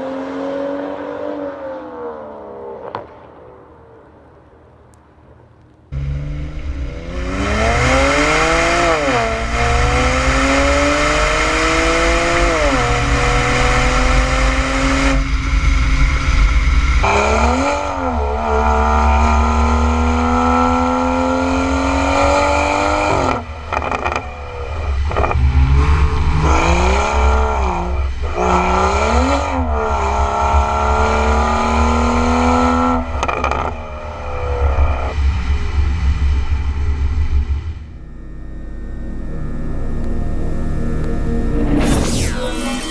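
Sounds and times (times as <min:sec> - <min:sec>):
car engine accelerating through gears: 0:05.9 - 0:42.9.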